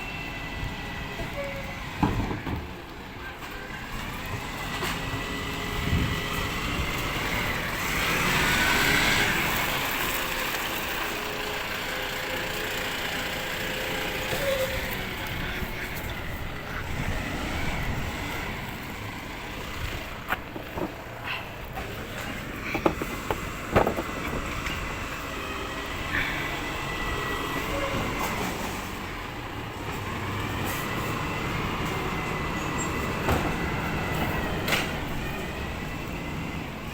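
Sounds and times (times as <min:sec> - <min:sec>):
rubbish truck running: 0:00.0 - 0:36.9.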